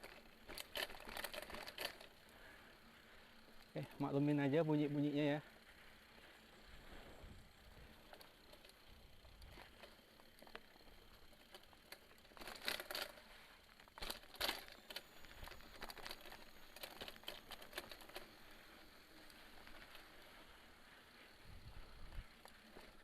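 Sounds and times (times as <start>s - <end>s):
mountain bike rattling and clicking: 0.0s - 23.0s.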